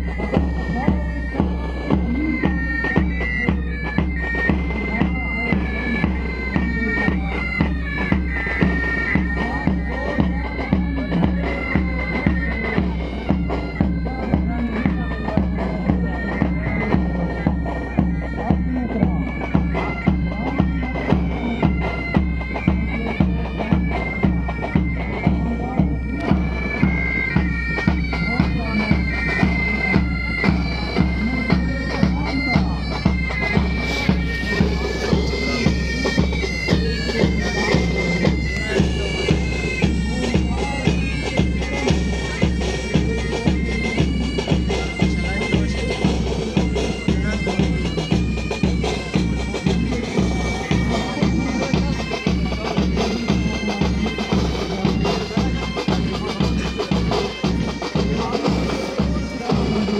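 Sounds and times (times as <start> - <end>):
bagpipes playing melody: 0.0 - 59.9
marching drum beat: 0.0 - 59.9.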